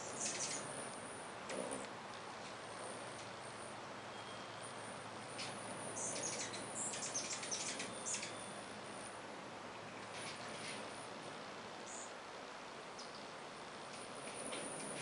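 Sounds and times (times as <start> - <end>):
hummingbirds chipping and twittering: 0.0 - 15.0.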